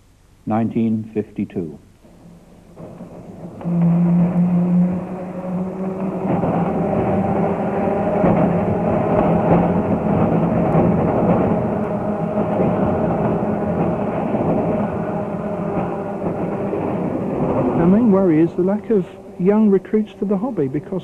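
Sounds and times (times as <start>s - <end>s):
tram wheels rumbling and rattling: 1.9s - 21.0s
motor whine: 2.1s - 20.5s.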